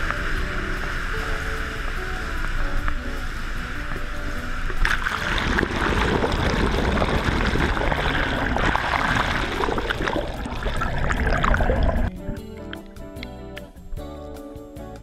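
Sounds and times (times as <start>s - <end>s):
water rushing and gurgling: 0.0s - 13.7s
steady low rumble: 0.0s - 14.4s.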